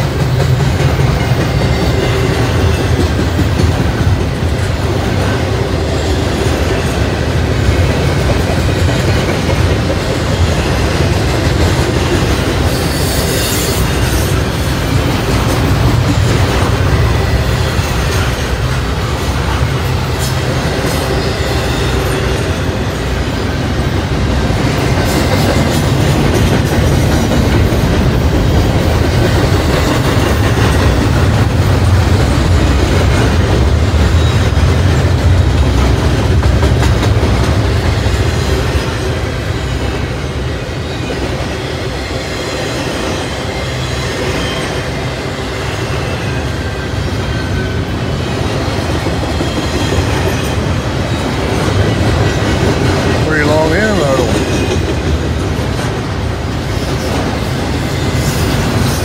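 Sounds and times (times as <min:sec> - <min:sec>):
freight train wheels rumbling: 0:00.0 - 0:59.0
train wheels clacking: 0:00.0 - 0:59.0.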